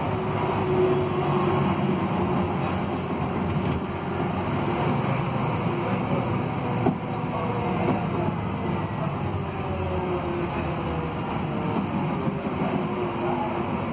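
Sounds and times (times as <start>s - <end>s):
bus engine hum: 0.0s - 13.9s
road noise: 0.0s - 13.9s.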